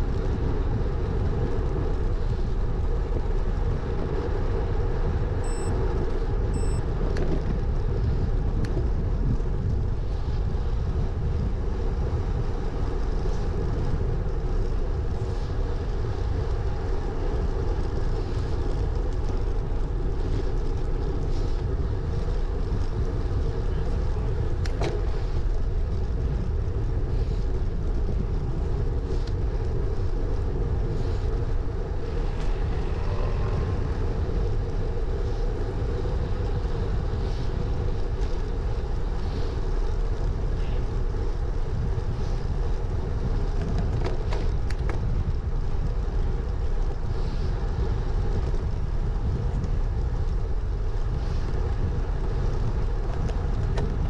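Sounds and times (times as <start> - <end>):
bike tyres rolling on tarmac: 0.0 - 54.0
wind rumble on microphone: 0.0 - 54.0
bike clicks and rattles: 7.0 - 33.1, 33.8 - 54.0.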